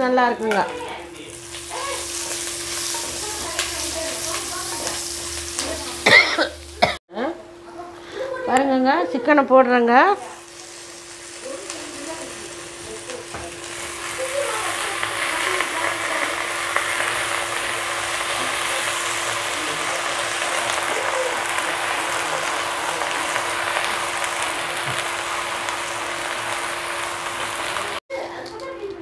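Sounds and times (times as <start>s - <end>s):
chicken sizzling in hot oil: 0.0s - 7.0s, 10.2s - 28.6s.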